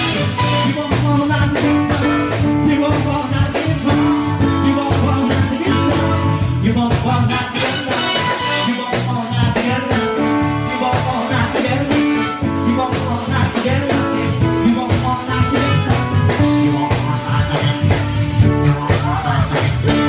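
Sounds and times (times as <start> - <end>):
drums beat: 0.0 - 20.0
electronic keyboard: 0.0 - 20.0
person singing: 0.0 - 20.0.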